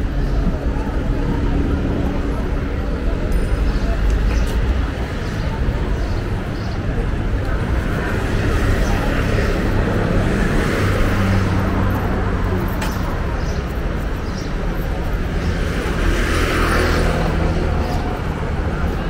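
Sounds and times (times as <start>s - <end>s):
vehicle engines humming: 0.0s - 19.0s.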